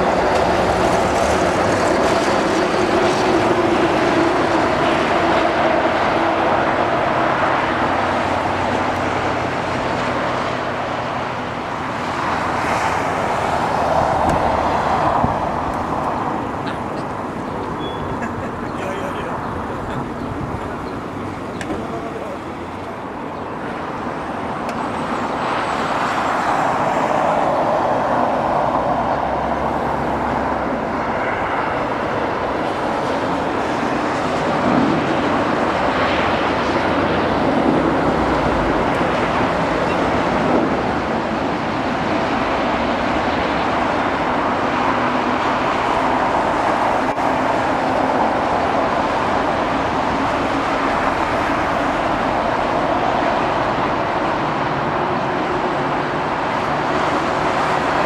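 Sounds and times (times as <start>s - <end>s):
jet airliner engines: 0.0s - 58.0s.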